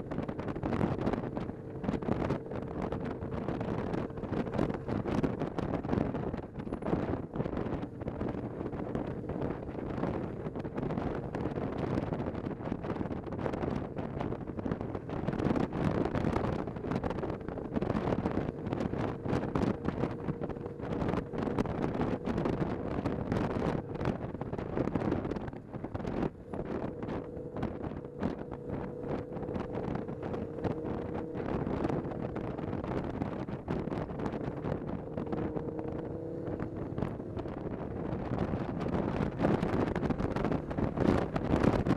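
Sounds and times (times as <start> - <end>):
motorcycle engine running: 0.0 - 41.9
wind buffeting microphone: 0.0 - 41.9.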